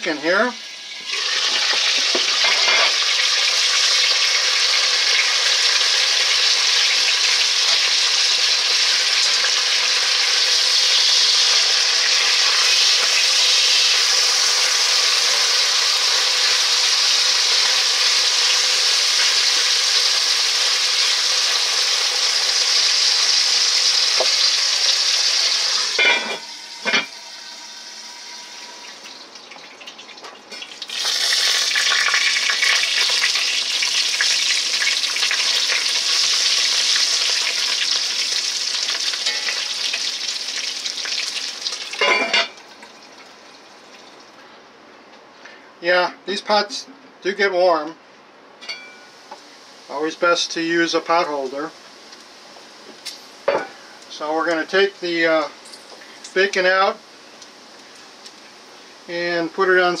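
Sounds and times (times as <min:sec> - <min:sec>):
bacon sizzling in a pot: 0:00.0 - 0:44.3, 0:48.7 - 1:00.0.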